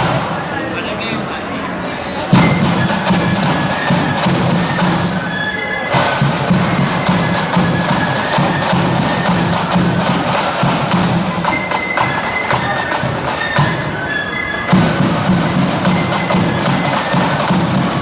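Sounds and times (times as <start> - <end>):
flutes playing: 0.0 - 18.0
snare drum beats: 0.0 - 18.0.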